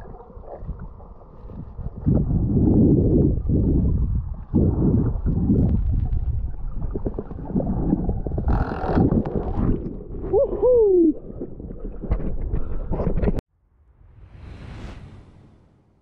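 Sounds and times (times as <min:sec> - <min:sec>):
underwater rumbling and knocking: 0:00.0 - 0:13.4.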